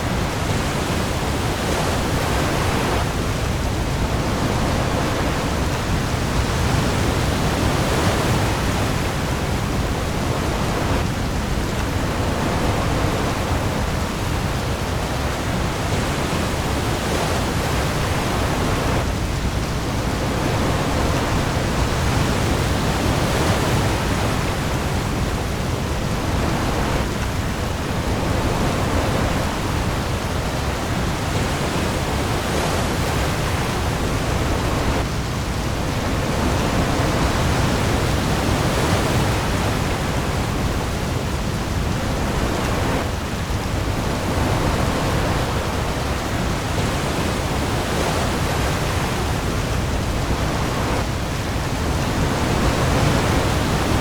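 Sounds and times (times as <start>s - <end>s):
heavy rain on sea surface: 0.0s - 54.0s.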